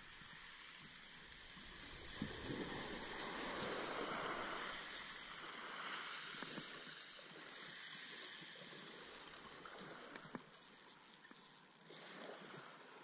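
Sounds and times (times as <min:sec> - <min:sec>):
fishing reel gears whirring: 0:00.0 - 0:13.0.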